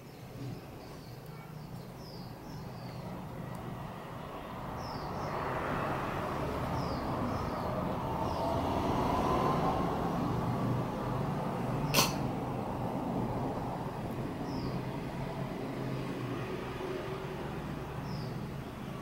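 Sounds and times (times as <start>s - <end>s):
distant engine hum: 0.4s - 19.0s.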